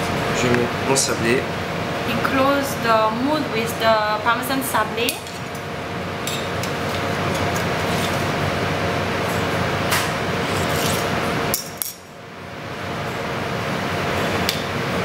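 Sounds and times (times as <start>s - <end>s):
noisy background hum: 0.0s - 15.0s.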